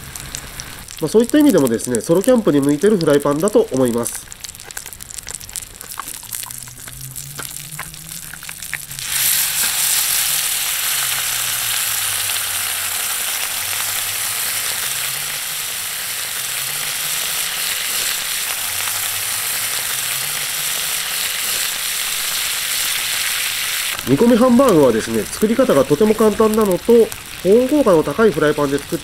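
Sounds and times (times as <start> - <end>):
loud sizzle of bubbling sauce: 0.0 - 29.0
meat frying with small crackles: 0.0 - 29.0.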